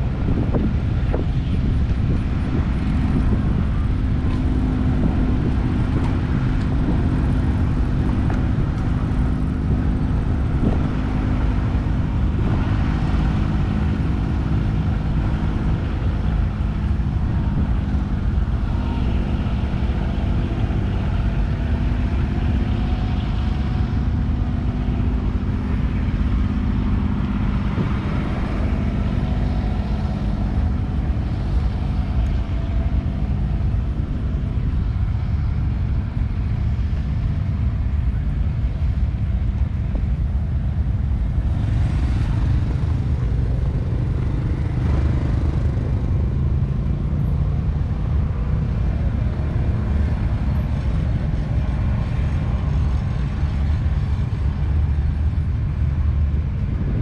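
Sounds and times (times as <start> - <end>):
engine running steadily: 0.0 - 57.0
wind rumble on microphone: 0.0 - 57.0.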